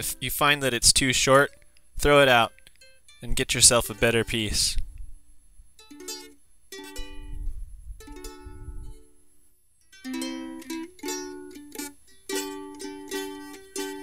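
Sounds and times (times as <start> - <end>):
plucked string instrument music: 0.0 - 4.8, 5.8 - 9.2, 9.8 - 14.0.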